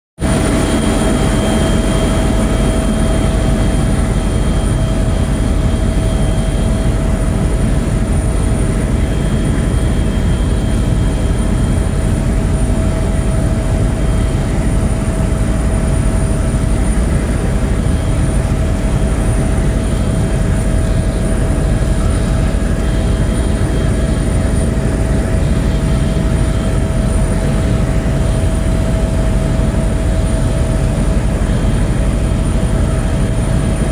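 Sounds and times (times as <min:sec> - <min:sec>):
propeller aircraft cabin drone: 0:00.2 - 0:33.9
steady engine whine: 0:00.2 - 0:33.9.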